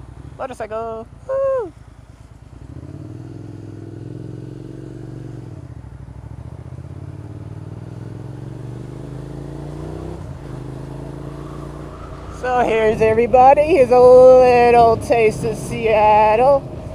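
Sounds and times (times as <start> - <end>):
motorcycle engine pulling away: 1.7 - 16.9.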